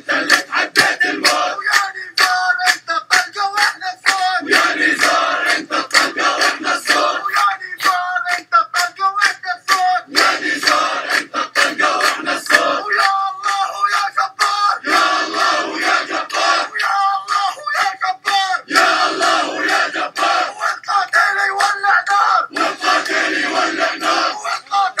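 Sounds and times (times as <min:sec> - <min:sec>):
crowd chanting slogans: 0:00.0 - 0:07.9, 0:09.7 - 0:25.0
man leading chant through megaphone: 0:00.0 - 0:25.0
rhythmic clapping: 0:00.0 - 0:25.0.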